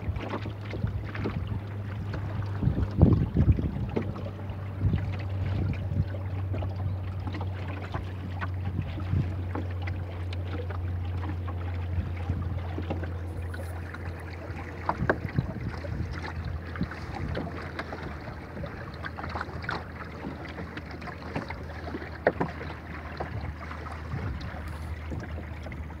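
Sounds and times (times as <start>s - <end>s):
water lapping against hull: 0.0s - 26.0s
wind rumble on microphone: 0.0s - 26.0s.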